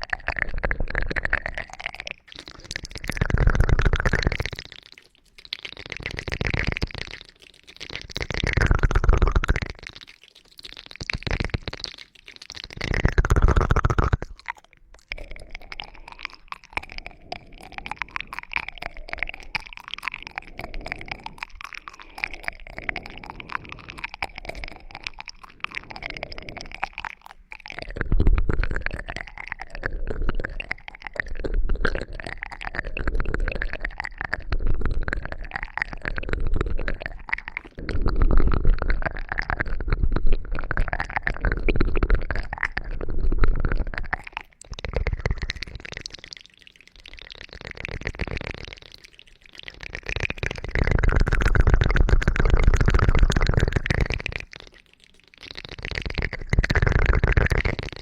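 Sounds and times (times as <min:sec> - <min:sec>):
crackling and scratching in ear: 0:00.0 - 0:58.0.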